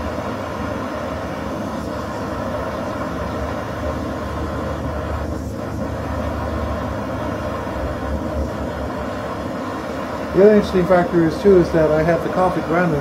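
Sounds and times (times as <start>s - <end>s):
gas stove burner running: 0.0s - 13.0s
water nearly boiling: 0.0s - 13.0s.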